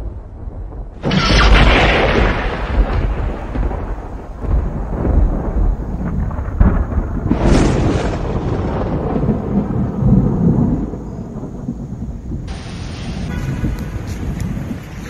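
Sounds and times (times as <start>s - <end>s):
thunder crack and rumble: 0.0s - 15.0s.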